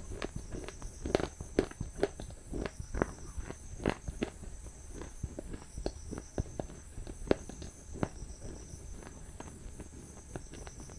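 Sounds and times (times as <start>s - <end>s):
faint low hum: 0.0s - 10.9s.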